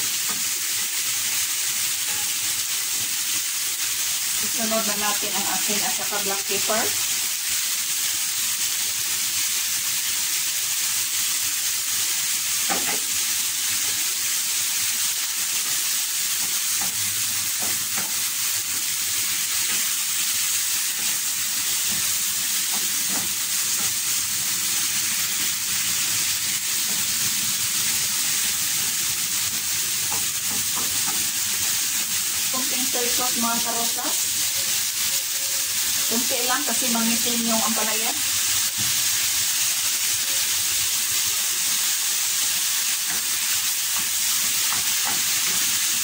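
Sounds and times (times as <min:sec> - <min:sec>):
vegetables sizzling in oil: 0:00.0 - 0:46.0.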